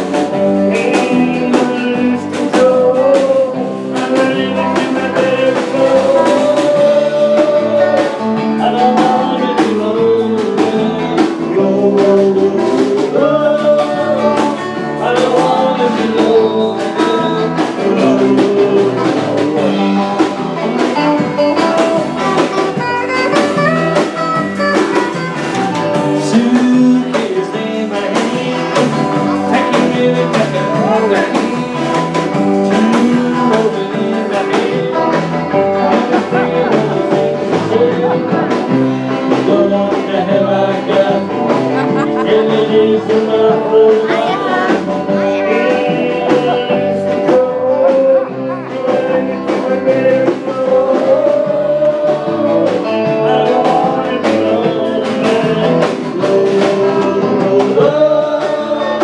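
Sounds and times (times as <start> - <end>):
drum kit dance beat: 0.0 - 59.0
electric guitar: 0.0 - 59.0
man singing into a microphone: 0.0 - 59.0.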